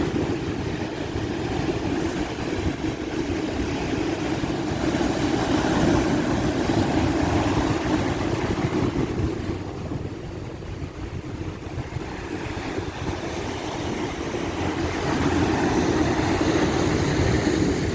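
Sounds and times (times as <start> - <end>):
ocean waves breaking: 0.0 - 17.9.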